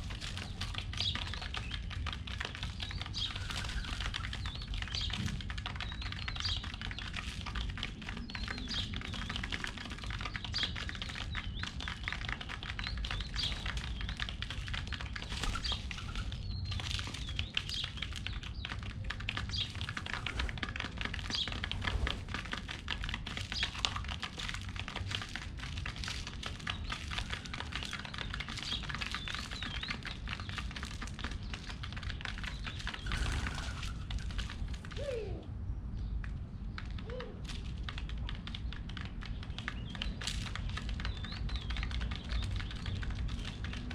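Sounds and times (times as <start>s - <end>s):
pigeons pecking seeds: 0.0s - 43.9s.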